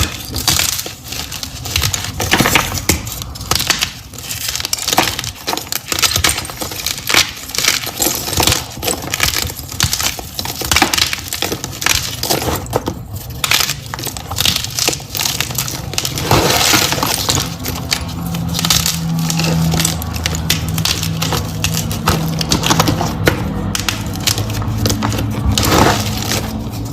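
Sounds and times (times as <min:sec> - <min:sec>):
chalk crunching: 0:00.0 - 0:26.9.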